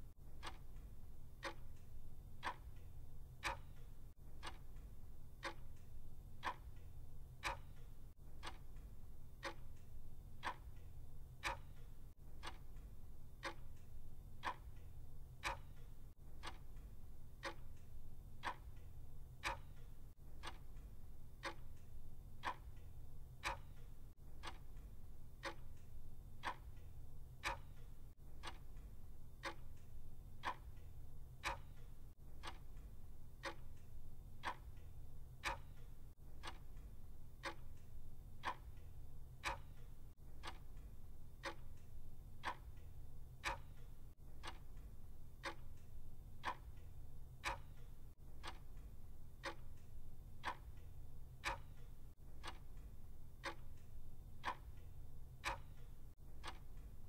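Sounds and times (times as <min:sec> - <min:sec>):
mechanical clock ticking: 0:00.0 - 0:57.0.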